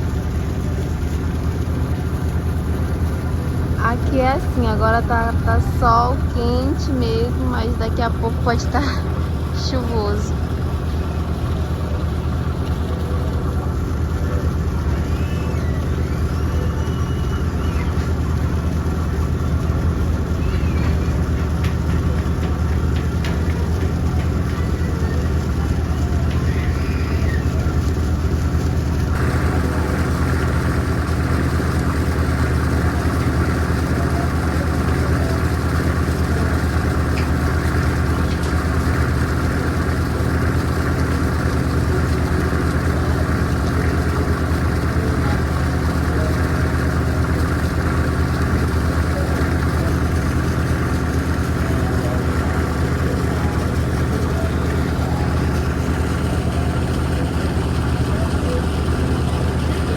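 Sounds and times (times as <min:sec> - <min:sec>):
ferry engine droning: 0:00.0 - 0:59.9.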